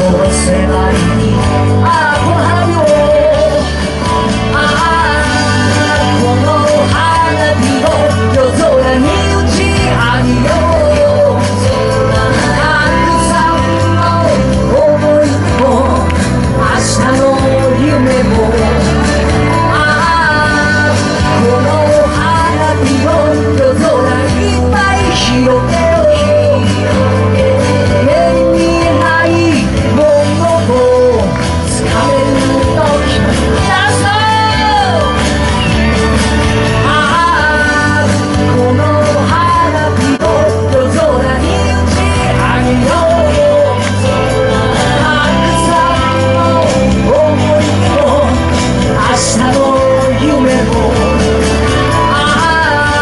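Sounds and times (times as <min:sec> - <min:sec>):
loud pop-rock song: 0:00.0 - 0:53.0
melodic instrumental lines: 0:00.0 - 0:53.0
person singing: 0:00.0 - 0:53.0.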